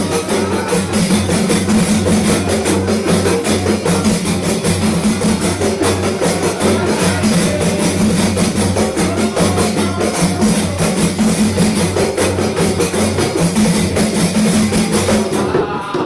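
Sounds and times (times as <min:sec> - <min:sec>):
frame drums fast rhythm: 0:00.0 - 0:16.0.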